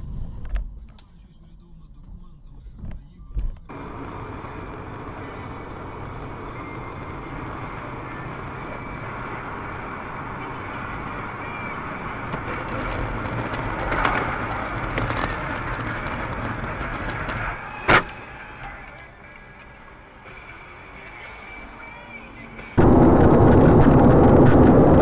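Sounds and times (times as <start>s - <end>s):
vehicle road noise: 3.6s - 25.0s.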